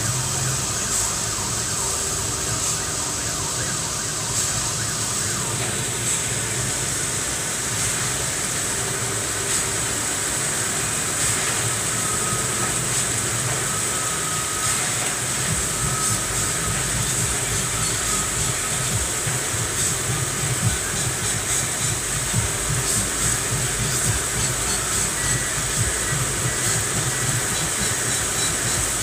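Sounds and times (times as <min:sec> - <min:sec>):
heavy rain hissing: 0:00.0 - 0:29.0.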